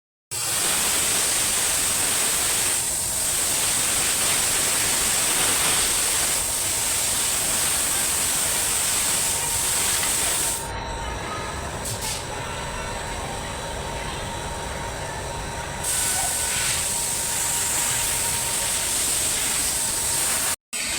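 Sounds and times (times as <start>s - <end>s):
loud steady hiss: 0.3s - 20.9s.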